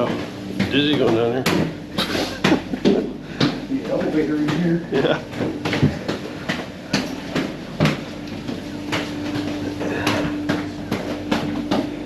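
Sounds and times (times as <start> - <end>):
footsteps on steel floors: 0.0 - 12.0
low machinery hum: 0.0 - 12.0.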